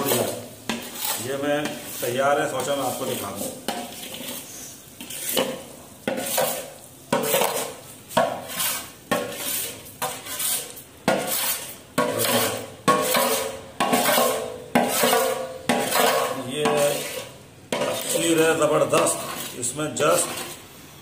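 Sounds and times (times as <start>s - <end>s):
tool scraping steel pan: 0.0s - 20.7s.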